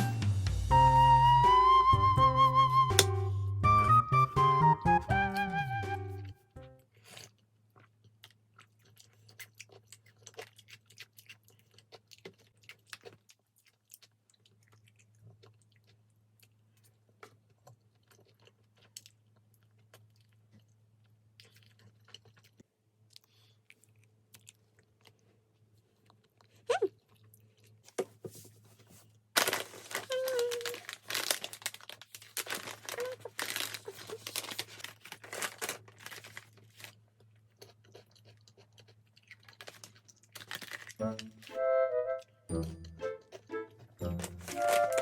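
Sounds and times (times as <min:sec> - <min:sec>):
person chewing and crunching food: 0:06.4 - 0:41.6, 0:42.5 - 0:45.0.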